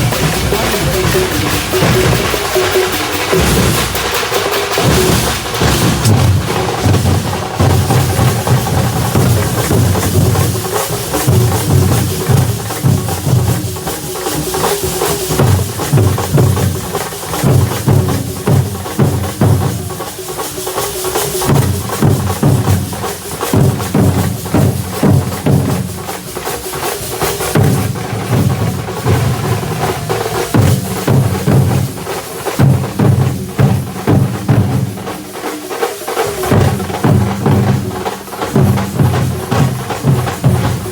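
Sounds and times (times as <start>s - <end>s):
fast drum percussion: 0.0s - 40.9s.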